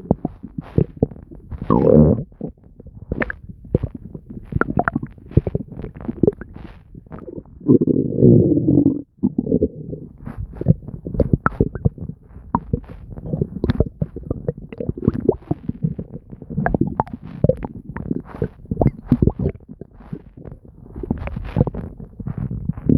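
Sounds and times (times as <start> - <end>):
stomach gurgling: 0.0 - 22.9.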